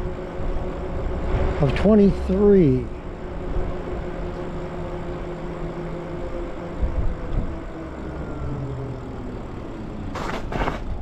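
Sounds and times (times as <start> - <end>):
electric motor whining: 0.0 - 11.0
tyres on wet road: 0.0 - 11.0
wind rumble: 0.0 - 11.0.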